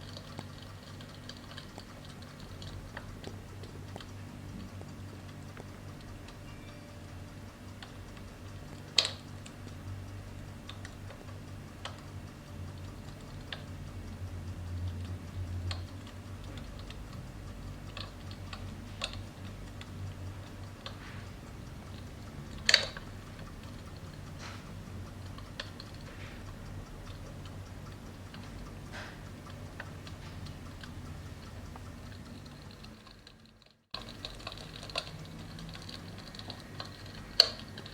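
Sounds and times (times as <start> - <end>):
crackling fire clicks and snaps: 0.0 - 37.9
steady low hum: 0.0 - 37.9.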